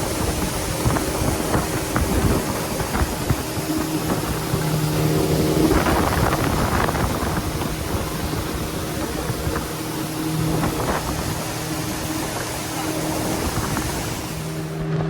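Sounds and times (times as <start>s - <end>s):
boat engine humming: 0.0s - 15.0s
rush of noise: 0.0s - 15.0s
wind buffeting microphone: 0.0s - 15.0s.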